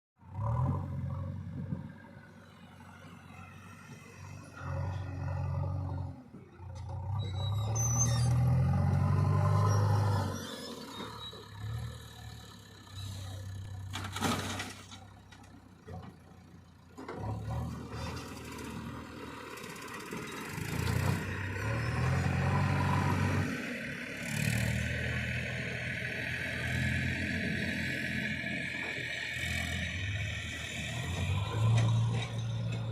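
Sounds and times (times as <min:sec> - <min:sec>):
diesel engine revving: 0:00.2 - 0:15.9, 0:17.1 - 0:32.9.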